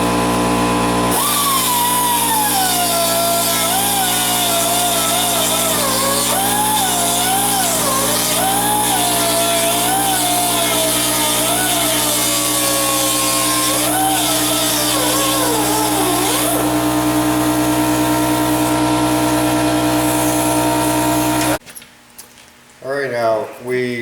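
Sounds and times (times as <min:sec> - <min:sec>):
rotary grinder running: 0:00.0 - 0:21.6.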